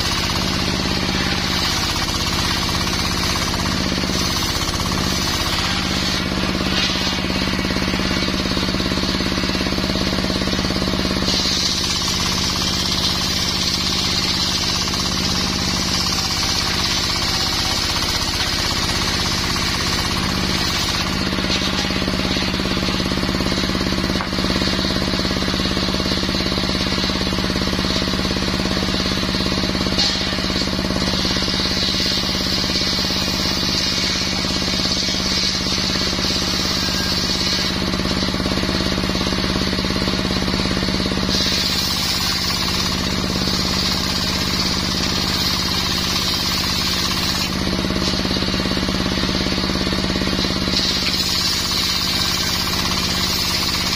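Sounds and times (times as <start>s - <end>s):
engine-powered saw cutting wood: 0.0s - 53.9s.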